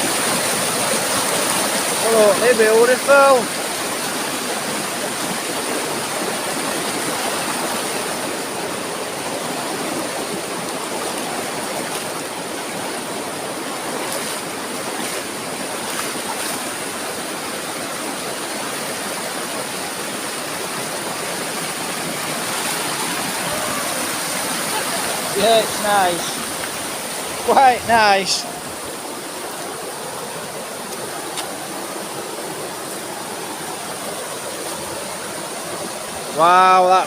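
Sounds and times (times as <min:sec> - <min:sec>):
waterfall and river rushing: 0:00.0 - 0:37.0.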